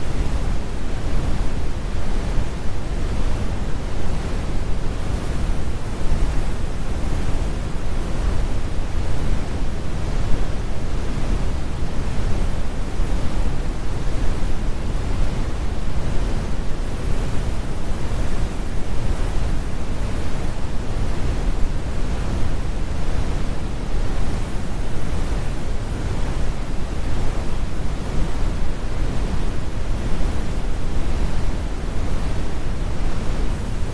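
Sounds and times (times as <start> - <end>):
brown noise rumbling hiss: 0.0 - 33.9.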